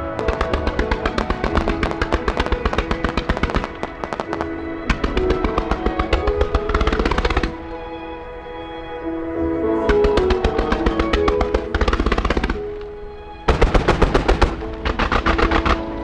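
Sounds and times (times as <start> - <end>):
fireworks crackling: 0.0 - 16.0
melodic music: 0.0 - 16.0.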